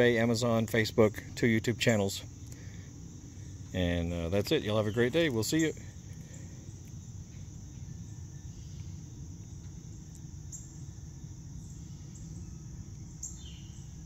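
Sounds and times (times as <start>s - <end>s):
insects chirring: 0.0s - 14.0s
low steady rumble: 0.0s - 14.0s.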